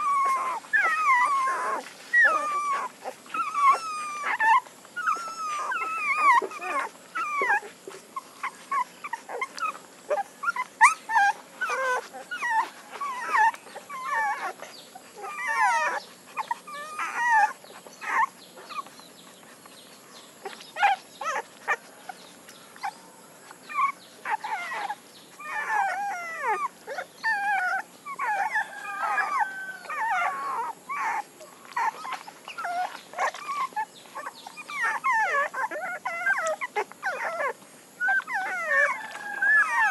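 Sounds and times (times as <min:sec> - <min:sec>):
puppies squeaking and whimpering: 0:00.0 - 0:39.9.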